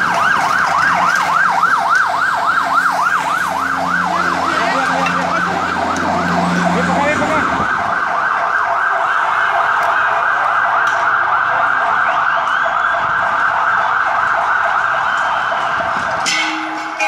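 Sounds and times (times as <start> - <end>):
siren warbling: 0.0 - 16.8.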